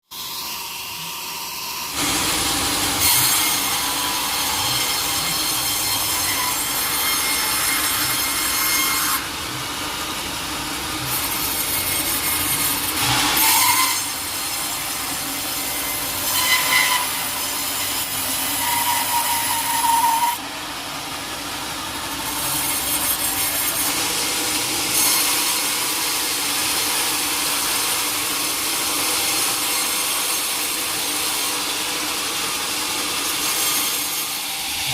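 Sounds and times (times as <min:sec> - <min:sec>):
saw blade cutting log: 0:00.1 - 0:34.9.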